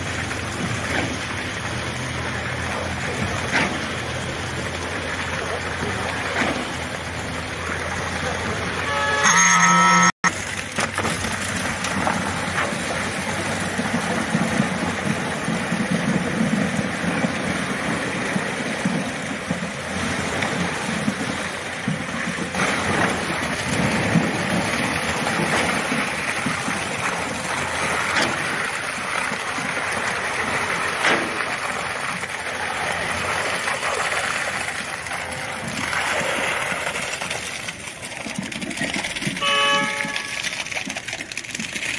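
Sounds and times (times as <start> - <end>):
concrete pump running: 0.0 - 41.9.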